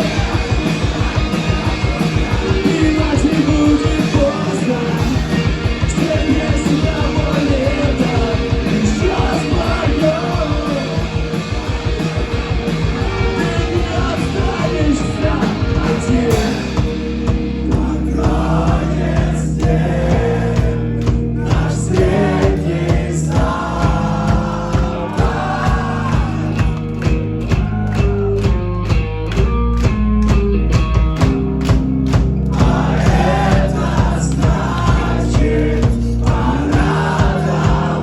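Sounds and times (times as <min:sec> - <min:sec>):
drums: 0:00.0 - 0:38.0
electric guitars: 0:00.0 - 0:38.0
rock band playing live: 0:00.0 - 0:38.0.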